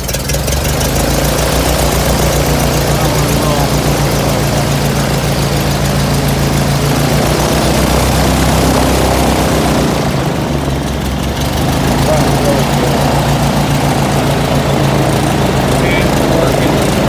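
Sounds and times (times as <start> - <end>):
airboat engine idling: 0.0 - 17.0.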